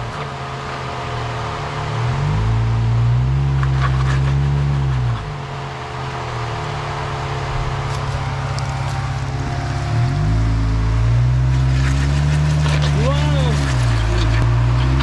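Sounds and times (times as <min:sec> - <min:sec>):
car engine under throttle: 0:00.0 - 0:15.0.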